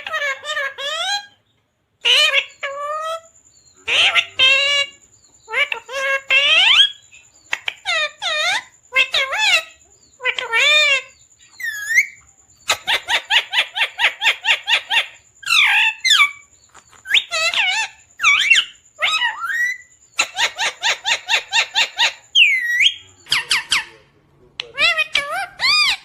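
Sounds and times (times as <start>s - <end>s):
parrot calling: 0.0s - 1.4s, 2.0s - 26.0s.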